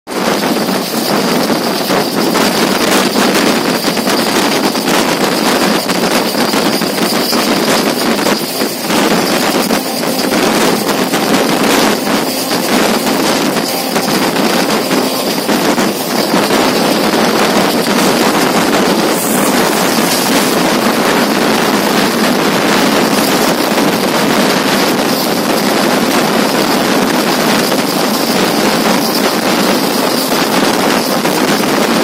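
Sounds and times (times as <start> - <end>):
train carriage running on rails: 0.1 - 32.0
wind rushing on microphone: 0.1 - 32.0.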